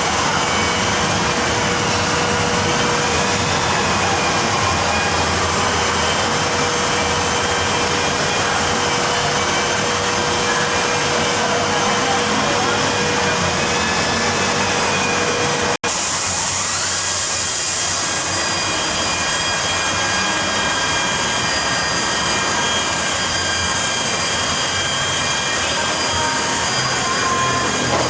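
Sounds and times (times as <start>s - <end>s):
workshop tool motor hissing: 0.0s - 28.0s.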